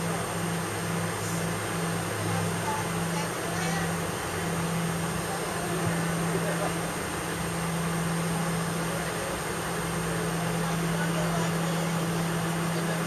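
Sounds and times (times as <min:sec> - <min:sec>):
jet airliner cabin noise: 0:00.0 - 0:13.0
low steady hum: 0:00.0 - 0:13.0.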